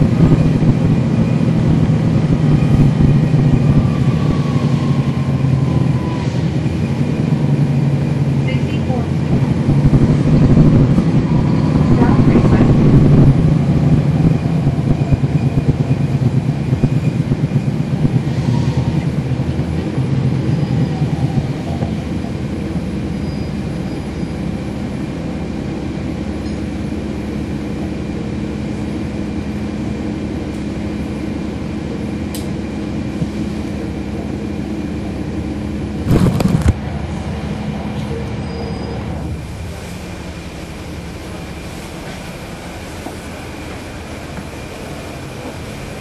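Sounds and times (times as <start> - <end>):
bus diesel engine: 0.0 - 46.0.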